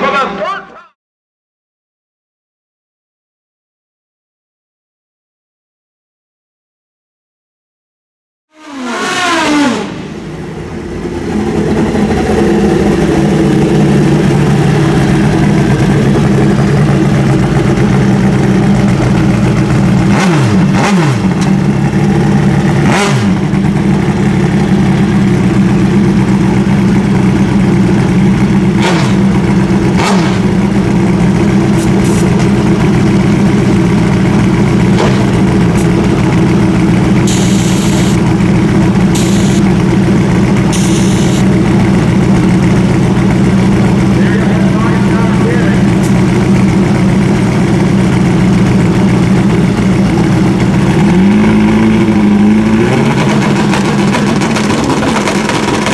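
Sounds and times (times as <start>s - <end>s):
loud engine running steadily: 8.6s - 55.9s.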